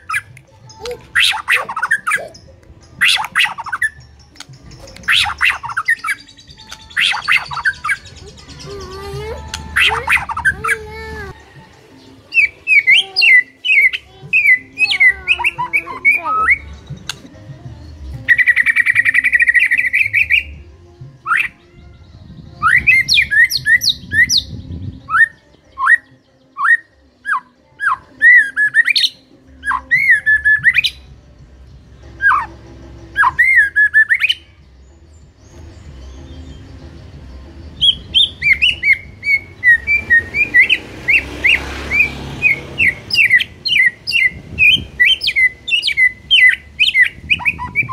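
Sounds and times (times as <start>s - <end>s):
bird singing whistled notes: 0.0s - 10.8s, 11.4s - 47.9s.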